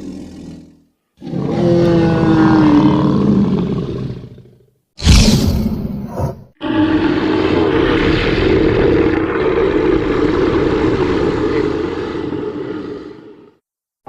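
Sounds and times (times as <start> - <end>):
monster roar: 0.0 - 4.4, 6.6 - 13.6.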